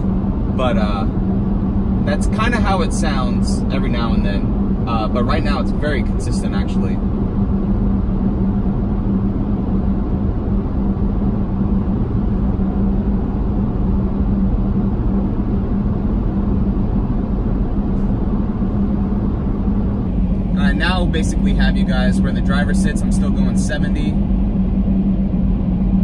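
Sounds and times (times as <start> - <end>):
road and wind rumble: 0.0 - 26.0
roof rack wind hum: 0.0 - 26.0.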